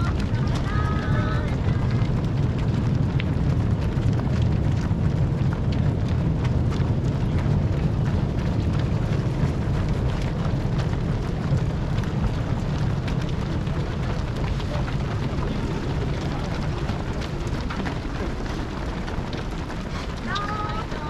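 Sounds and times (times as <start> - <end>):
runners' shoe strikes on road: 0.0 - 21.0
steady low rumble: 0.0 - 21.0.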